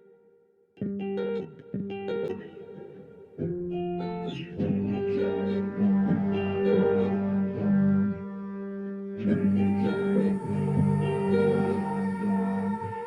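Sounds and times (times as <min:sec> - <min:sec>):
electric guitar playing: 0:00.0 - 0:13.0.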